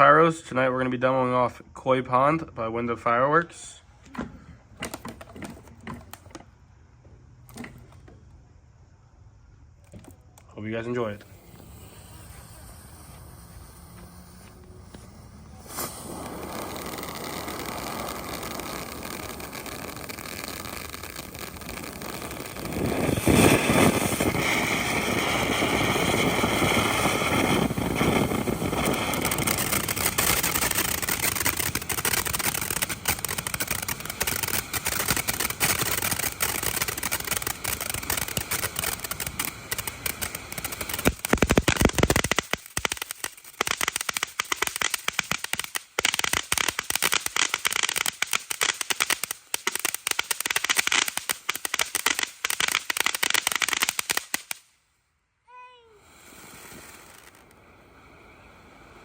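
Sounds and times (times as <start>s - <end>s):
firework fountain hissing and crackling: 0.0s - 54.8s, 55.5s - 59.0s.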